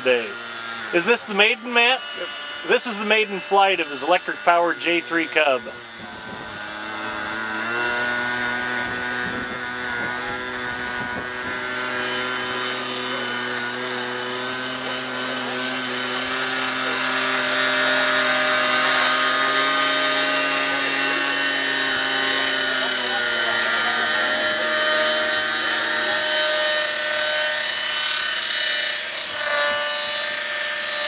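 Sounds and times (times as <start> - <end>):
model helicopter engine and rotor: 0.0 - 31.0.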